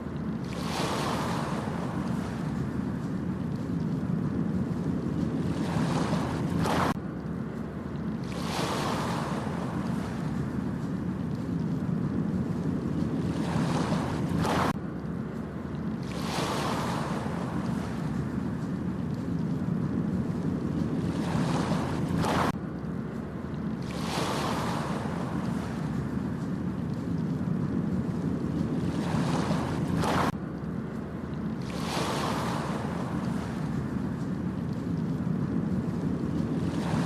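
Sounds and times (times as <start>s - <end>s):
low rumble of surf: 0.0s - 37.0s
ocean waves breaking: 0.0s - 37.0s.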